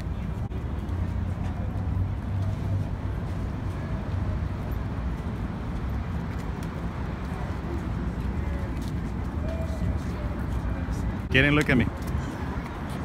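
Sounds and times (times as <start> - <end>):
low rumble of city noise: 0.0 - 13.0.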